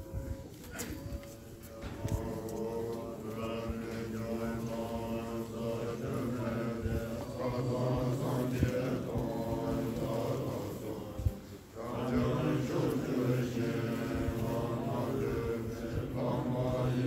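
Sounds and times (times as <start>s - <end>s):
voices chanting a prayer: 0.0s - 17.0s.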